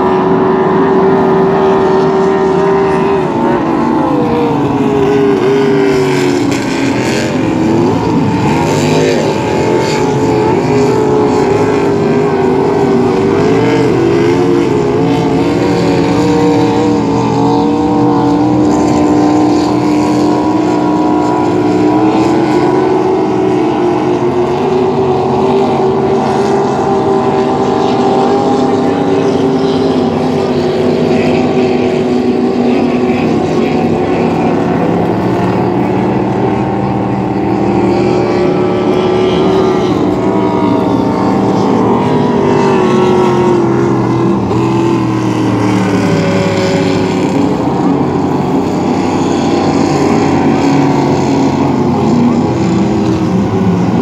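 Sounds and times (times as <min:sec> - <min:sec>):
powerboat engine drone: 0:00.0 - 0:54.0.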